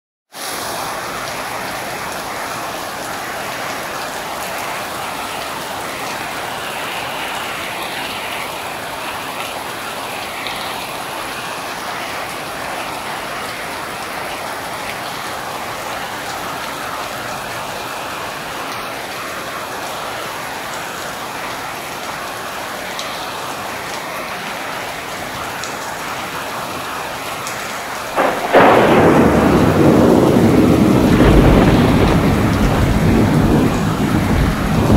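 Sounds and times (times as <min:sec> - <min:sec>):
steady rain falling: 0:00.3 - 0:34.9.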